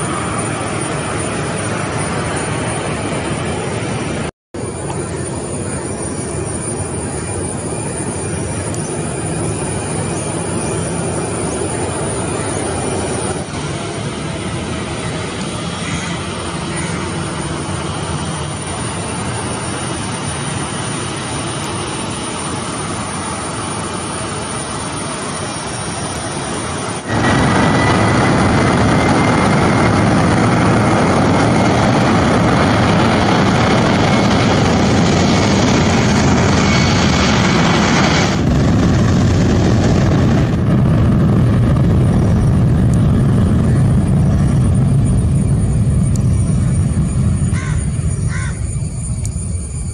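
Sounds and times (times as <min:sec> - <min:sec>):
high engine whine: 0:00.0 - 0:49.9
jet engines running: 0:00.0 - 0:49.9.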